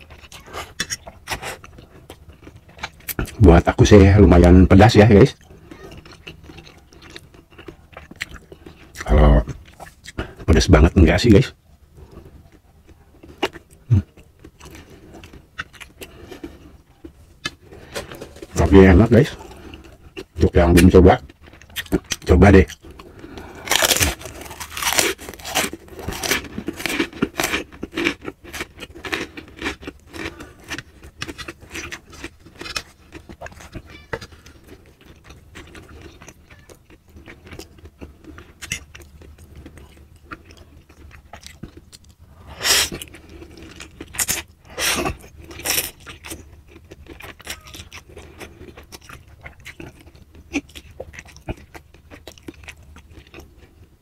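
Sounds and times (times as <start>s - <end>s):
biting and crunching food: 0.0s - 54.0s.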